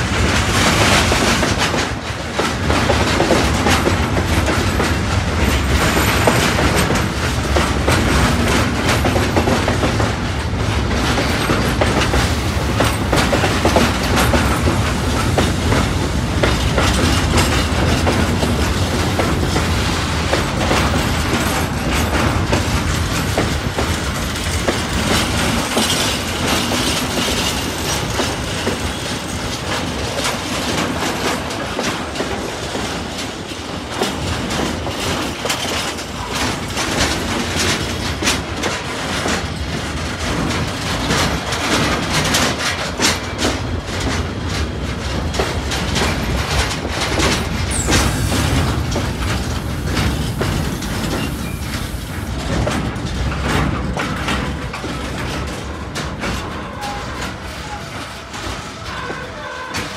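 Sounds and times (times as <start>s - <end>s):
train wheels clattering over joints: 0.0s - 59.9s.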